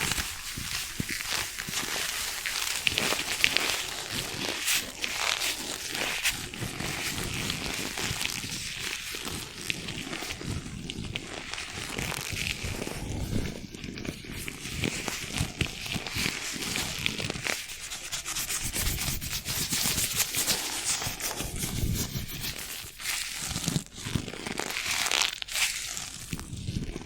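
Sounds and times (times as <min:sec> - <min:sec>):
rubbing and scratching on a surface: 0:00.0 - 0:10.4, 0:11.6 - 0:26.0.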